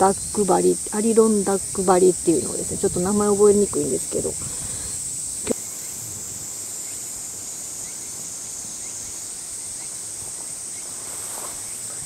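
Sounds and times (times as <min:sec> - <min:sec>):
insect chorus droning: 0:00.0 - 0:12.0.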